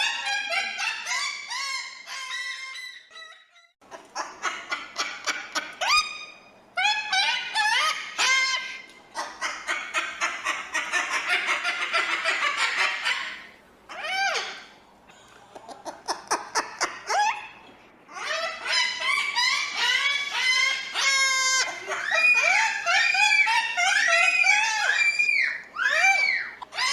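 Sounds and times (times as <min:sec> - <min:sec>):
cockatoo squawking: 0:00.0 - 0:14.8, 0:15.6 - 0:26.9.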